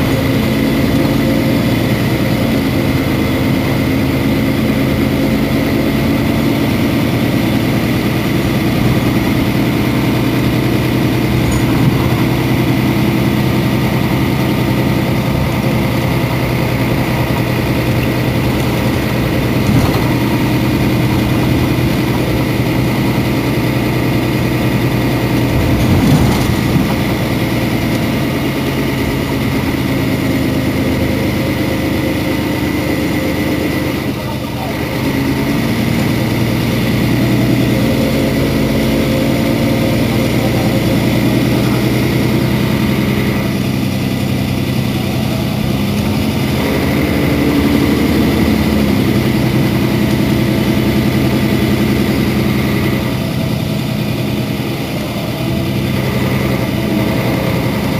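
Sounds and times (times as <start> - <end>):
diesel bus engine idling: 0.0 - 57.9.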